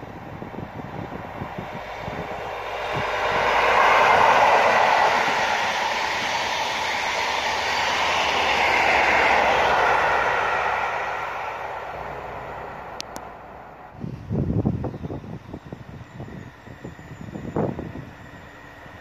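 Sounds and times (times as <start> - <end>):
diesel train passing at speed: 0.0 - 19.0.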